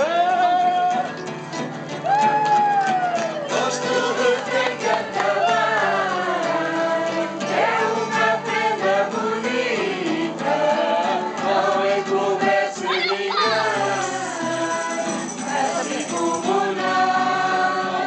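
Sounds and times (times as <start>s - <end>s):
instrumental accompaniment: 3.4s - 18.0s
group singing: 3.5s - 18.0s.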